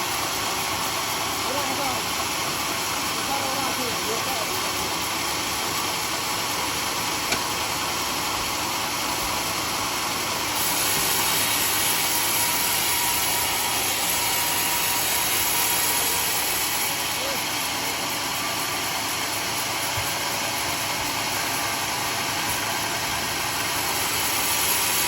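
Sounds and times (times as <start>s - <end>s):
sawmill saw cutting wood: 0.0s - 25.0s.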